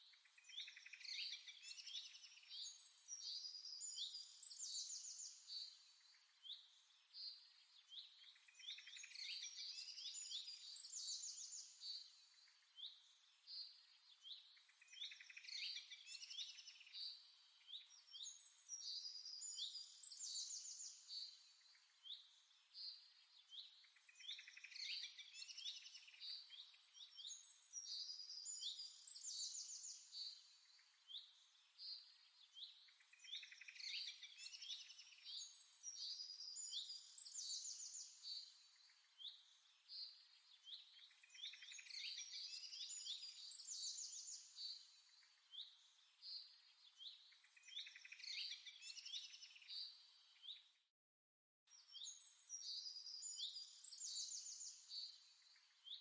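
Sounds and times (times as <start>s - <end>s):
faint birdsong chirps and trills: 0.0s - 50.9s, 51.7s - 56.0s.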